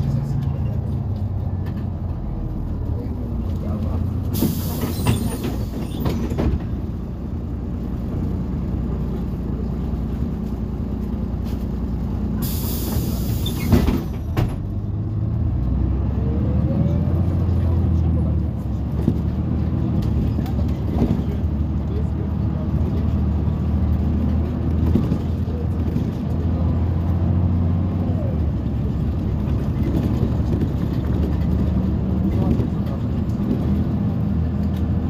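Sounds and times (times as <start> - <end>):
bus diesel engine running: 0.0 - 35.0.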